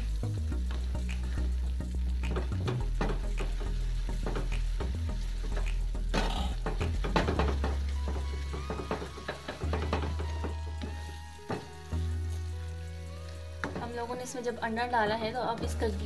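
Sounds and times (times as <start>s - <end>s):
background music with bass: 0.0s - 13.8s
food sizzling in fat: 0.0s - 16.0s.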